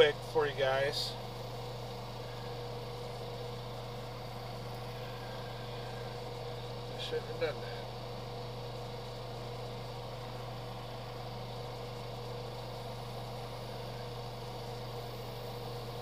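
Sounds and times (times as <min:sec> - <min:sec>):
small electric motor humming: 0:00.0 - 0:16.0.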